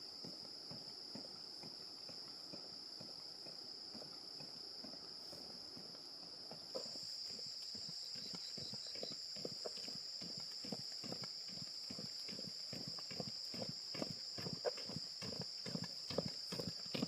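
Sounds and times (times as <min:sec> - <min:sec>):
higher insect sound: 0:00.0 - 0:17.0
insects chirring: 0:00.0 - 0:17.0.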